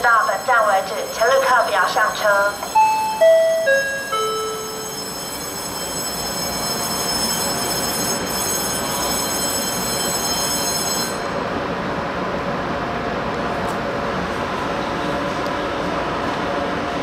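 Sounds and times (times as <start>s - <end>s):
train equipment hum: 0.0s - 17.0s.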